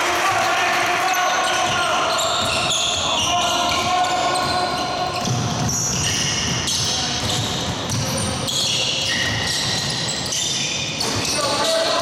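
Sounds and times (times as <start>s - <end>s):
basketball bouncing on wooden court: 1.4s - 11.4s.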